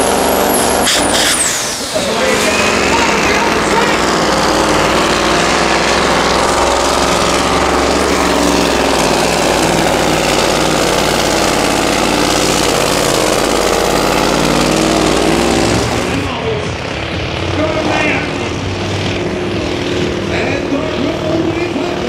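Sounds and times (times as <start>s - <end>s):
truck diesel engine under load: 0.0s - 22.0s.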